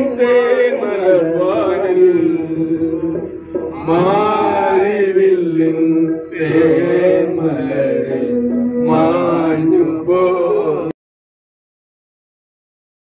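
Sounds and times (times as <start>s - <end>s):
men singing into a microphone: 0.0s - 11.0s.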